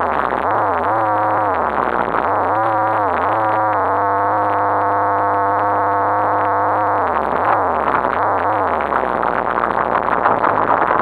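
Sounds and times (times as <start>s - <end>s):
muffled rc car motor whining: 0.0s - 11.0s.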